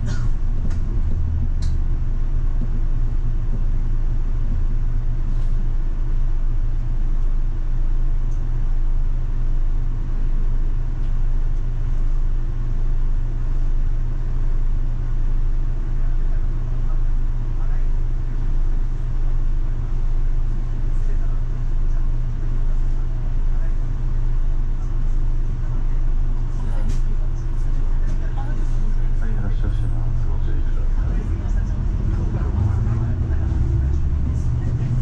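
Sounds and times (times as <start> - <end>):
bus engine rumble: 0.0 - 35.0.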